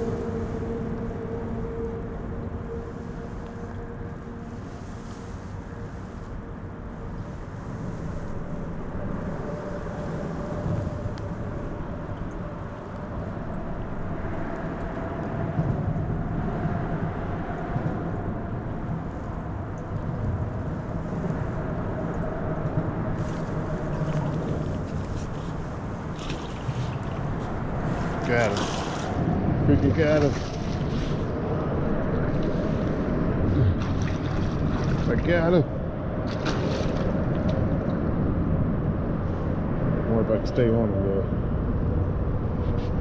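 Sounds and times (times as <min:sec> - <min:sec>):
distant engine drone: 0:00.0 - 0:43.0.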